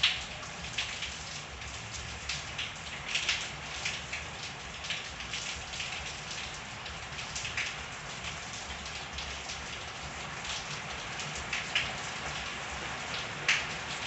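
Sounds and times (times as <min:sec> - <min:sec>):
drips and splashes: 0:00.0 - 0:14.0
steady rain falling: 0:00.0 - 0:14.0.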